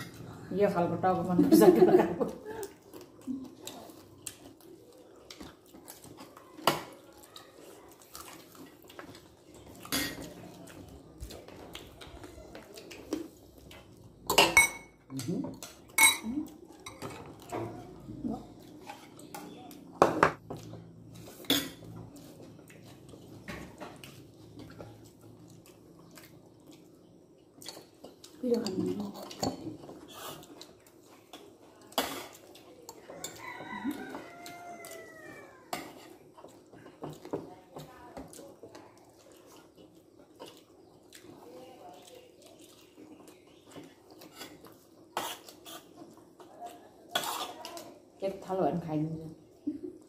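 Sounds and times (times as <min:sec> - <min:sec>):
fingers mixing food on plates: 0:00.0 - 0:50.0
chewing: 0:02.0 - 0:14.3, 0:15.6 - 0:48.1.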